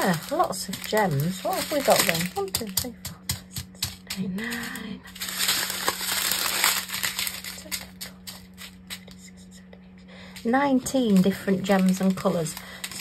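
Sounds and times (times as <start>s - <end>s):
plastic packaging crinkling: 0.0s - 9.2s, 10.2s - 13.0s
steady low hum: 0.0s - 13.0s.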